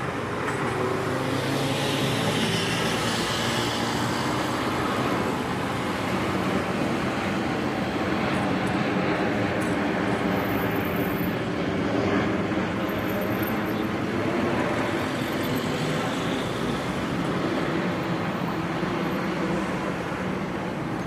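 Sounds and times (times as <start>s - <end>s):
aircraft engines running: 0.0s - 21.0s.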